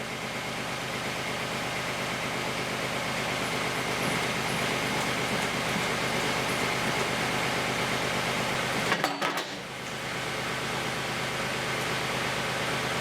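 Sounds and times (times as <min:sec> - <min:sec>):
engine low hum: 0:00.0 - 0:13.0.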